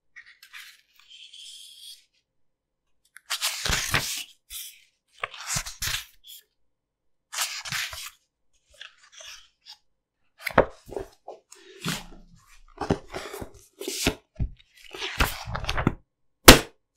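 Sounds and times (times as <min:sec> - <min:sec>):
book pages turning: 0:00.1 - 0:02.1, 0:03.1 - 0:06.5, 0:07.3 - 0:16.6.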